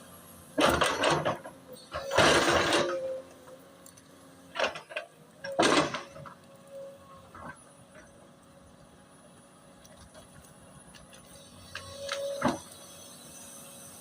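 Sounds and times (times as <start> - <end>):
excavator scraping and rattling: 0.1 - 14.0.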